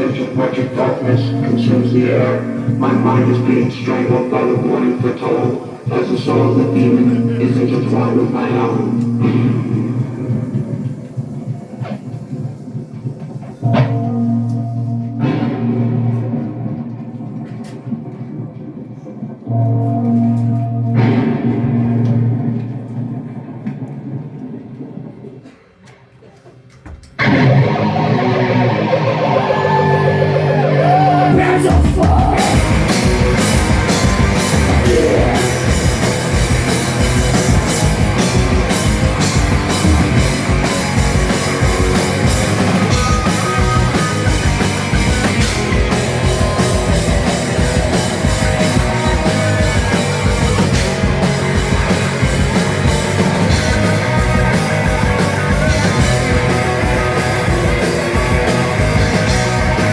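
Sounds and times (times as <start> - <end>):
bass guitar: 0.0 - 11.4, 13.6 - 18.3, 19.5 - 23.6, 27.1 - 59.9
distorted electric guitar: 0.0 - 26.1, 26.9 - 59.9
drums: 0.0 - 59.9.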